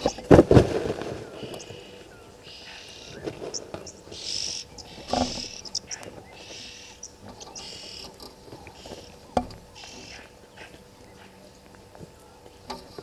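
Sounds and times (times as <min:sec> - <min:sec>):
high hissing buzz: 0:00.0 - 0:13.0.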